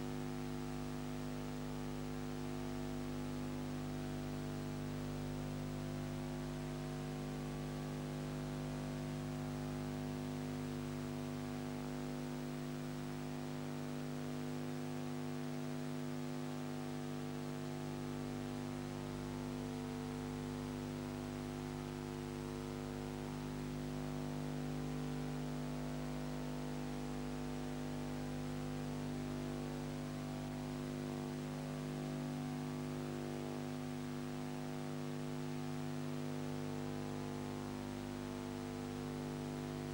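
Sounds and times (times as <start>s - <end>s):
electrical mains hum with hiss: 0.0s - 39.9s.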